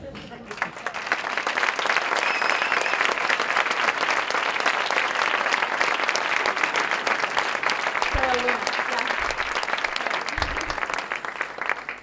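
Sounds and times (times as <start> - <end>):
audience applauding: 0.4 - 12.0.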